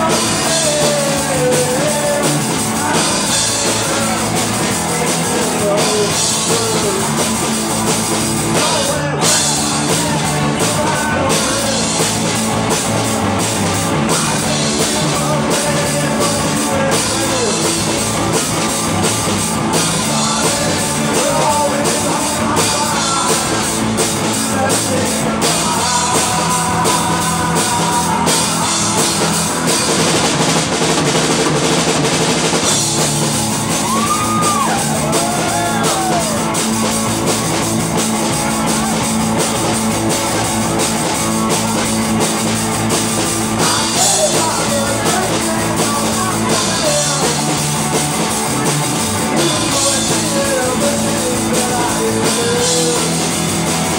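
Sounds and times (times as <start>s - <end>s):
person singing: 0.0s - 30.8s, 32.5s - 53.9s
live rock band playing: 0.0s - 53.9s.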